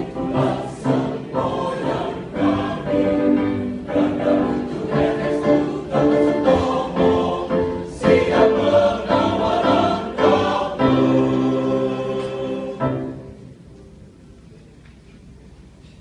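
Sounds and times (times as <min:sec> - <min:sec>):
choir singing: 0:00.0 - 0:13.4.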